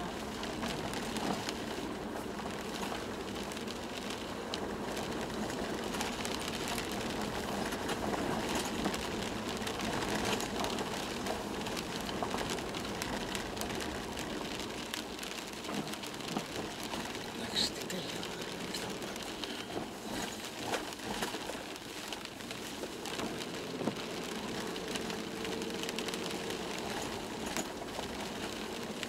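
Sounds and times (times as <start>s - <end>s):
small crackles and rattles: 0.0s - 29.0s
tyre rumble inside car cabin: 0.0s - 29.0s.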